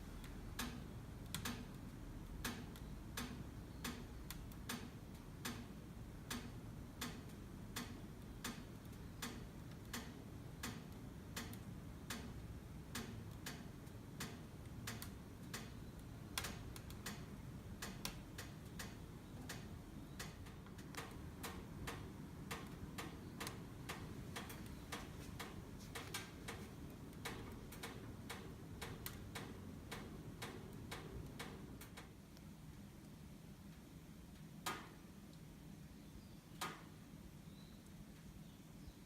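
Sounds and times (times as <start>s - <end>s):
wood fire crackling: 0.0s - 35.6s.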